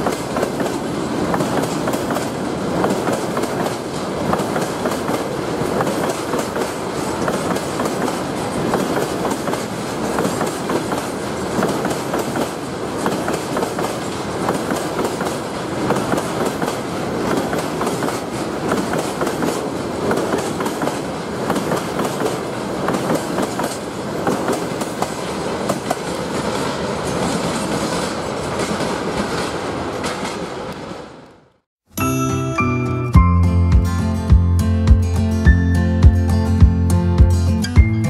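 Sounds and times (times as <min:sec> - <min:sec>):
train wheels clattering on rails: 0:00.0 - 0:31.2
train rumble: 0:00.0 - 0:31.4.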